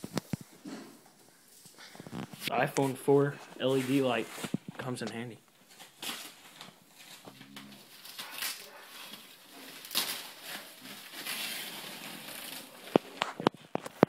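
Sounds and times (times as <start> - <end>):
soft sleeve rustling and crinkling: 0.0 - 14.0.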